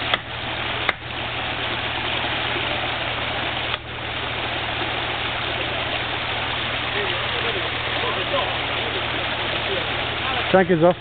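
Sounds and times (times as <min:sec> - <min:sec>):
steady hiss: 0:00.0 - 0:11.0
vehicle engine idling: 0:00.0 - 0:11.0.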